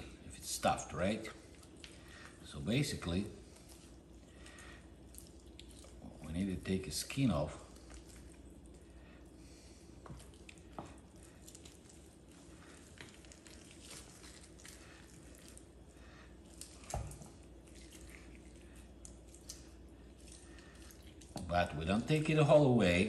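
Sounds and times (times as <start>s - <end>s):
wet squishing of skin peeling: 1.4s - 21.6s.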